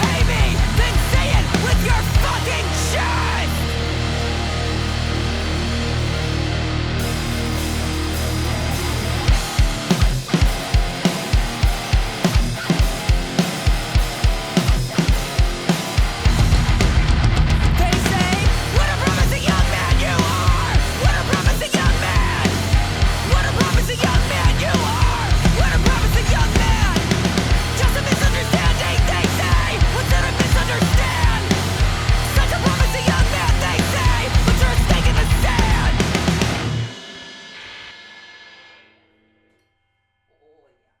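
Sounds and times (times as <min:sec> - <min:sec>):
pounding drum beat: 0:00.0 - 0:03.6, 0:07.4 - 0:37.6
heavy rock music: 0:00.0 - 0:38.8.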